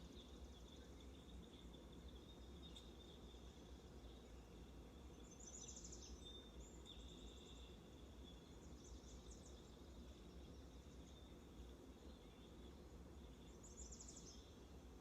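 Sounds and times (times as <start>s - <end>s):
birds chirping and trilling: 0.0s - 14.8s.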